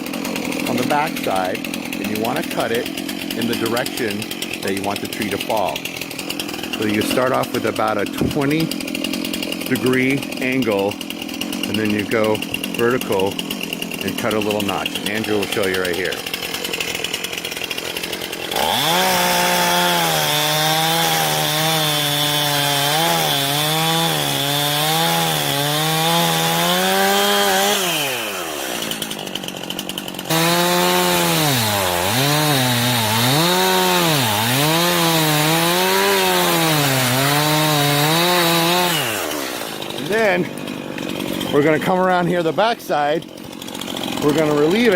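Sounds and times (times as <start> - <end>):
chainsaw cutting tree: 0.0 - 44.9.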